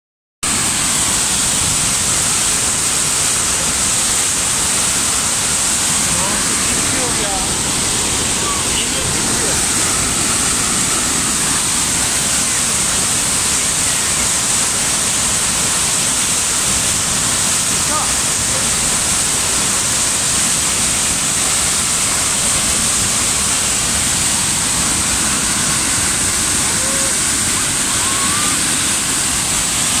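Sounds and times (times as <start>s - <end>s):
water gushing through channel: 0.4s - 30.0s.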